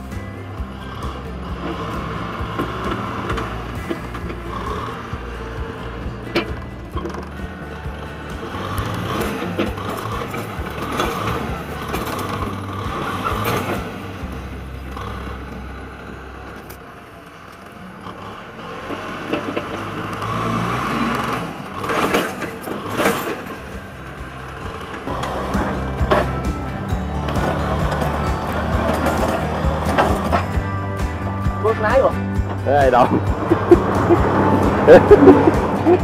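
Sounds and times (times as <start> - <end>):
dozer blade pushing soil: 0.0 - 16.8, 17.9 - 30.6
diesel tractor engine under load: 0.0 - 36.0.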